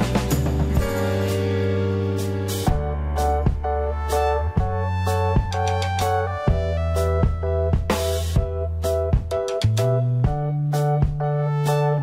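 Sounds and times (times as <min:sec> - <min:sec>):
beat: 0:00.0 - 0:12.0
deep bass: 0:00.0 - 0:12.0
keyboard chords: 0:00.0 - 0:12.0.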